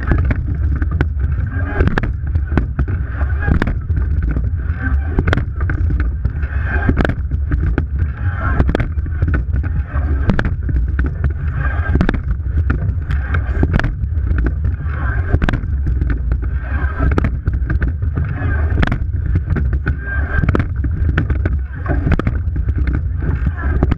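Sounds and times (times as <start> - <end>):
rowing stroke knocks: 0.0 - 23.9
water rushing along hull: 0.0 - 23.9
wind on microphone: 0.0 - 23.9.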